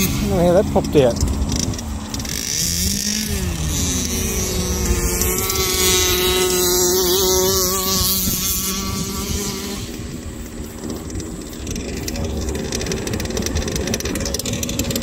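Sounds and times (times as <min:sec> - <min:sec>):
small two-stroke engine buzzing: 0:00.0 - 0:15.0.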